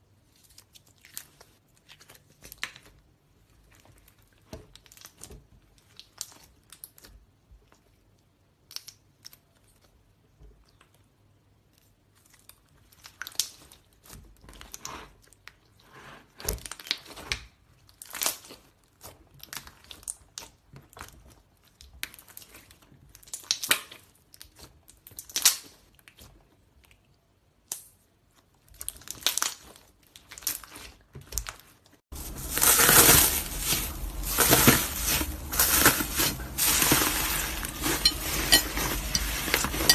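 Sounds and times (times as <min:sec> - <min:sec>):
slime crackling and popping: 0:00.3 - 0:07.2, 0:08.1 - 0:10.0, 0:11.7 - 0:14.8, 0:16.6 - 0:26.9, 0:27.6 - 0:39.9.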